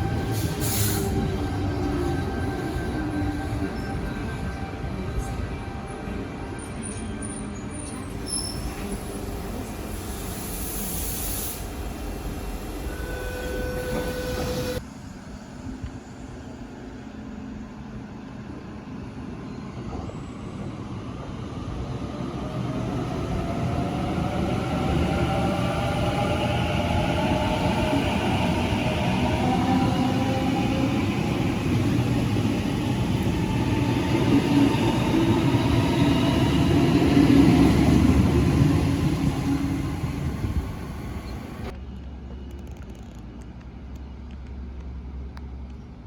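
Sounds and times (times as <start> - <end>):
electric train approaching: 0.0 - 42.0.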